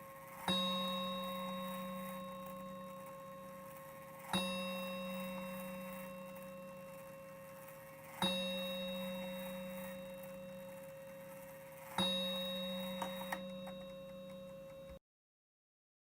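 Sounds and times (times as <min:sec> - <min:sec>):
mantel clock striking: 0:00.0 - 0:15.0.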